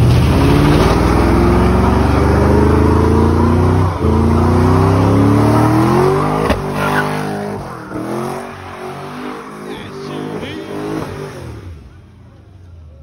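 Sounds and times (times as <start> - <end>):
car engine revving high: 0.1 - 12.0.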